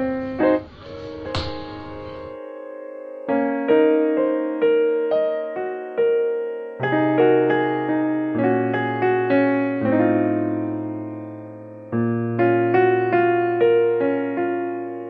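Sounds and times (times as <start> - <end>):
electric piano music: 0.0 - 15.0.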